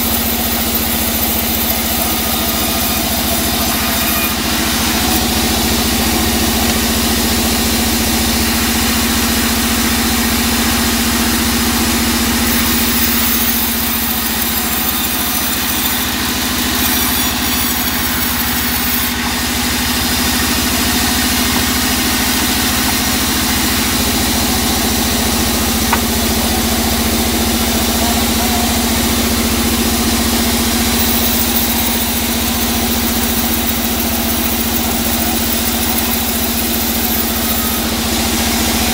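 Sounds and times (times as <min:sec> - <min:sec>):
band saw motor hum: 0:00.0 - 0:38.9
saw blade cutting wood: 0:00.0 - 0:38.9.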